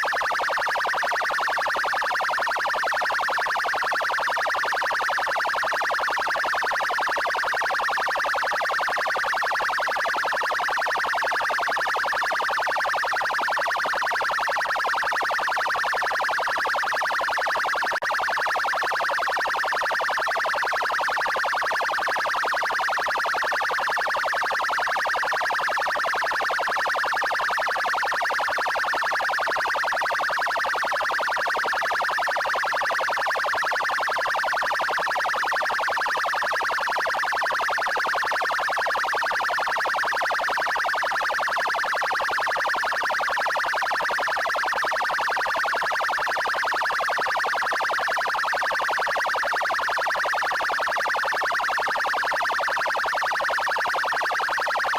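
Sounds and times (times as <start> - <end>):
electronic police siren: 0.0 - 54.9.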